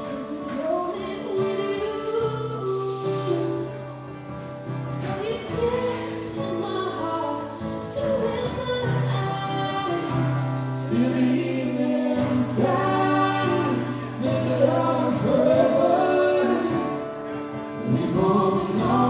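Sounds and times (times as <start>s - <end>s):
live band playing a slow ballad: 0.0s - 19.0s.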